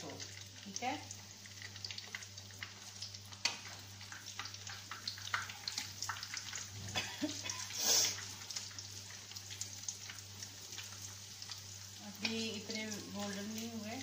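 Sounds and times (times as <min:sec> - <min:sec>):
patties sizzling in frying oil: 0:00.0 - 0:14.0.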